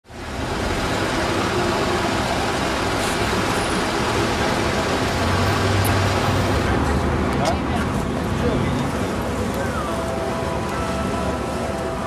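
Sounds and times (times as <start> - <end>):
cars driving past: 0.1 - 12.0.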